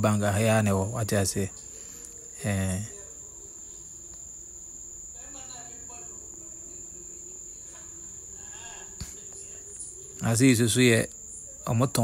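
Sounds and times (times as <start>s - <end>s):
faint street ambience: 0.0s - 12.0s
insects trilling: 0.0s - 12.0s.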